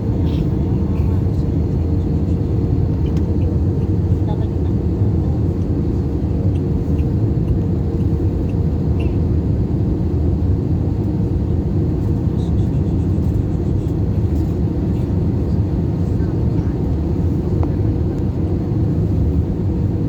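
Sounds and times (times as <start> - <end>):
airliner cabin rumble: 0.0 - 20.0.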